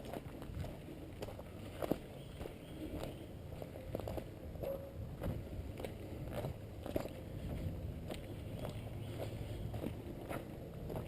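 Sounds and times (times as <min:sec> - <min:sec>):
footsteps on trail: 0:00.0 - 0:11.0.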